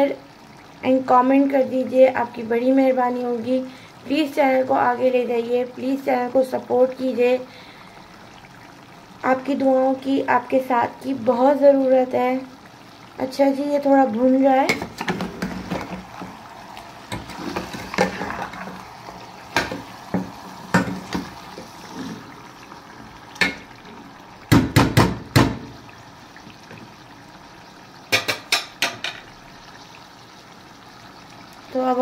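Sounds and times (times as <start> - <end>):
meat sizzling: 2.3 - 32.0.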